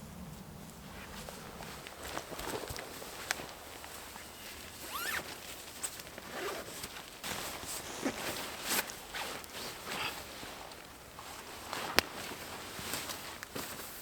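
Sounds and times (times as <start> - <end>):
rustling and scraping: 0.3 - 14.0.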